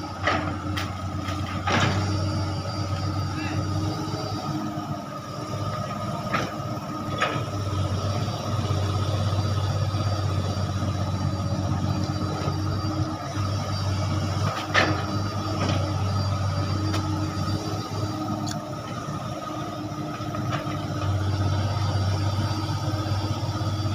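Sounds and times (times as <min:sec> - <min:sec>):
excavator engine running: 0:00.0 - 0:23.9.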